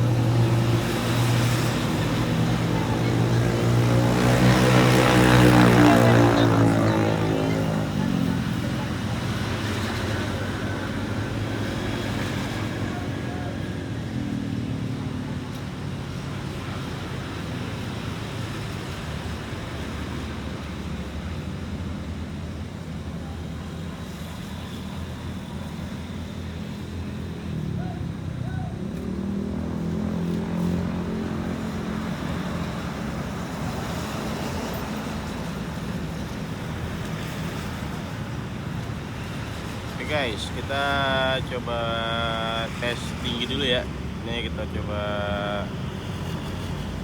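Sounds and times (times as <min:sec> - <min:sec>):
vehicle passing by: 0:00.0 - 0:22.1, 0:27.1 - 0:47.0
steady traffic noise: 0:00.0 - 0:47.0.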